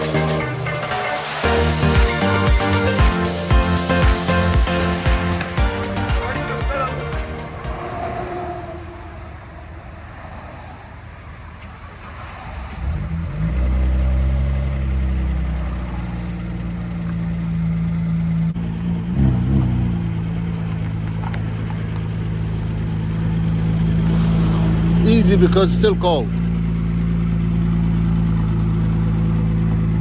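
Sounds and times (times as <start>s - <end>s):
car engine starting and idling: 0.0s - 30.0s.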